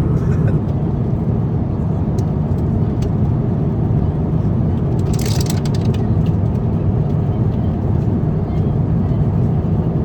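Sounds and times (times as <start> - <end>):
airplane cabin roar: 0.0 - 10.0.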